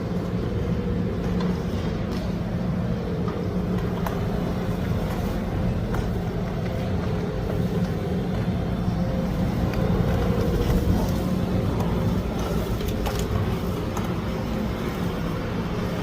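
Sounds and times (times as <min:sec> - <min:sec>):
road sweeper engine hum: 0:00.0 - 0:16.0.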